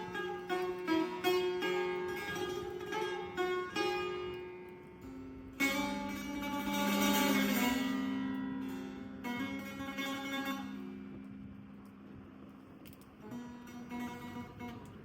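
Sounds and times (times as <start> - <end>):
plucked lute chords and notes: 0.0 - 15.0.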